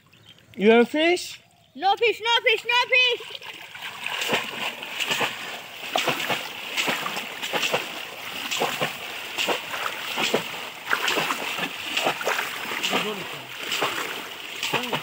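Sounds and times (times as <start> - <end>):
wading through water: 0.0 - 15.0
fish traps splashing into water: 2.6 - 15.0.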